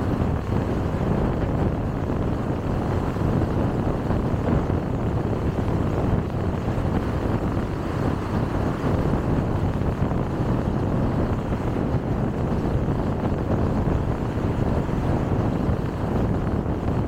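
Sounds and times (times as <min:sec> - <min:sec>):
car road noise at speed: 0:00.0 - 0:17.0.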